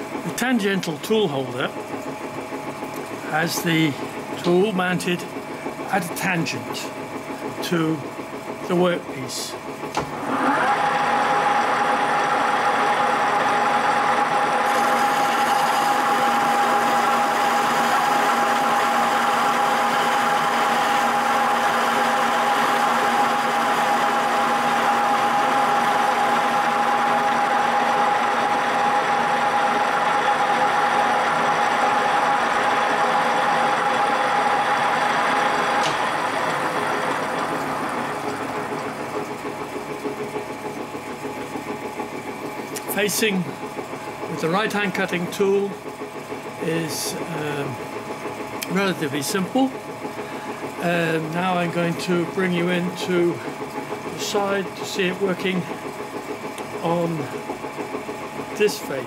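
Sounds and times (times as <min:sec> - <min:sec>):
high machine whine: 0:00.0 - 0:59.0
metal lathe running: 0:00.0 - 0:59.0.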